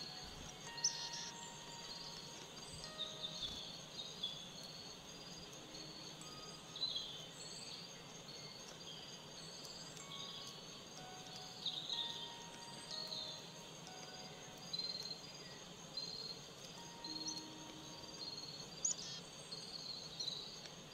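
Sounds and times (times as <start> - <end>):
high chirps and trills: 0.0 - 20.5
faint hiss: 0.0 - 20.9
soft held ambient tones: 0.0 - 20.9.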